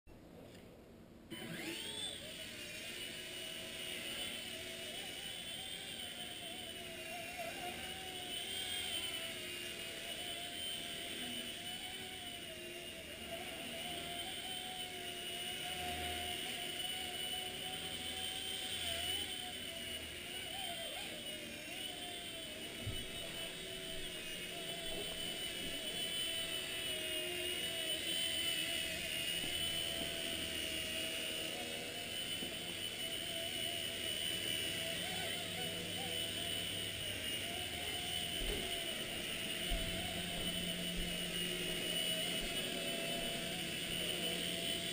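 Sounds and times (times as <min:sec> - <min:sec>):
toy helicopter motor whine: 0:01.3 - 0:44.9.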